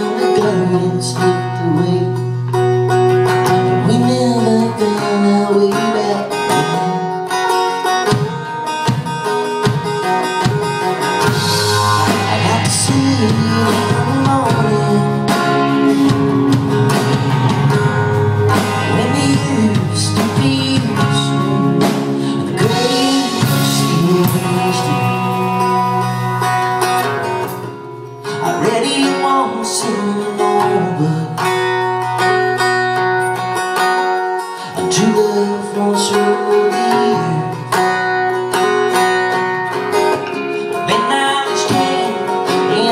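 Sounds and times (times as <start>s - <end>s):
electric guitar: 0.0s - 42.9s
strummed acoustic guitar: 0.0s - 42.9s
drum kit: 2.2s - 29.3s, 34.7s - 42.9s.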